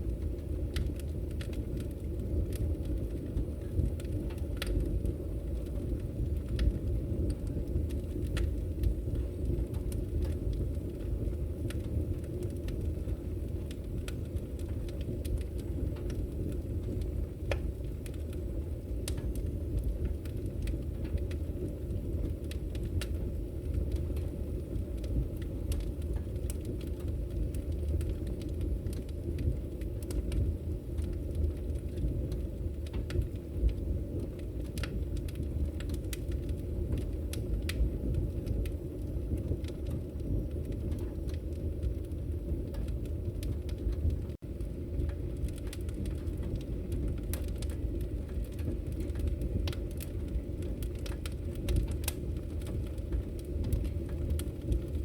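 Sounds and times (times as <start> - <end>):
fire rumbling: 0.0 - 55.0
wood crackling and popping: 0.0 - 55.0.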